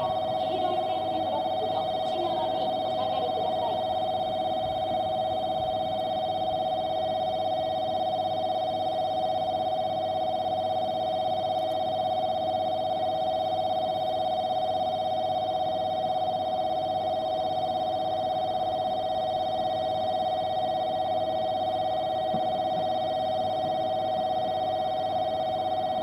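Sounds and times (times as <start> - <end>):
pulsing railway warning alarm: 0.0 - 26.0.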